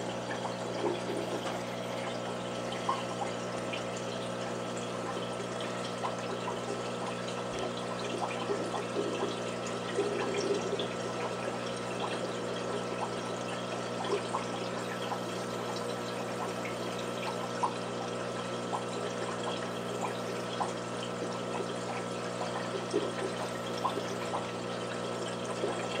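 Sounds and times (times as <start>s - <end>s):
aquarium water trickling: 0.0s - 26.0s
pump humming: 0.0s - 26.0s.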